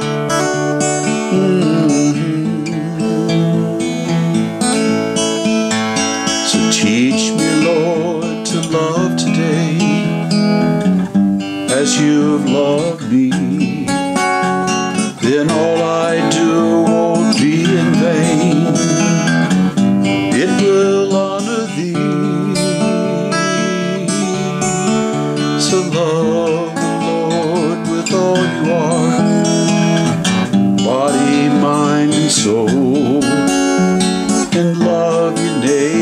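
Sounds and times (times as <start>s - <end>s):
man singing: 0.0s - 5.4s, 6.0s - 10.8s, 11.6s - 36.0s
strummed acoustic guitar: 0.0s - 36.0s.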